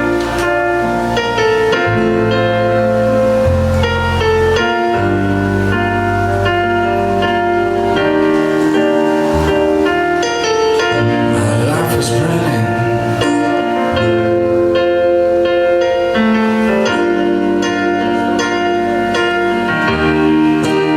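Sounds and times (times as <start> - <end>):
bass line: 0.0 - 20.9
held keyboard chords: 0.0 - 20.9
hissing swell: 0.0 - 20.9.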